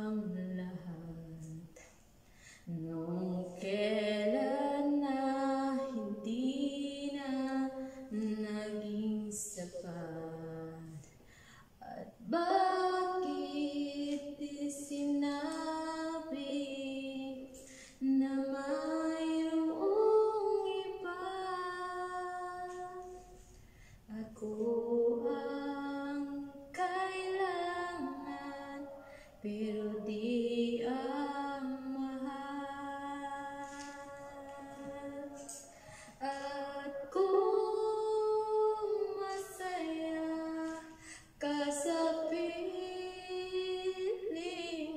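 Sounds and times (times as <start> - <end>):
woman singing unaccompanied: 0.0 - 1.8, 2.6 - 11.2, 11.8 - 23.5, 24.1 - 44.9.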